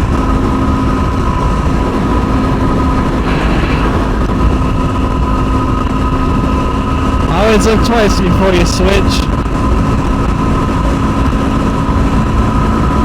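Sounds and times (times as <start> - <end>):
wind rumble on microphone: 0.0 - 7.8, 9.3 - 13.0
motorcycle engine cruising: 0.0 - 13.0.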